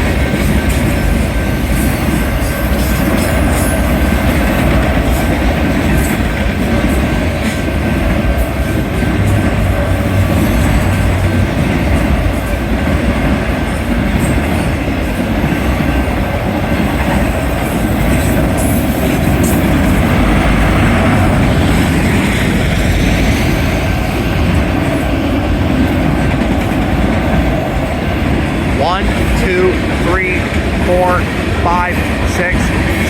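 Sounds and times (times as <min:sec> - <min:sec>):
freight train cars rolling: 0:00.0 - 0:33.0.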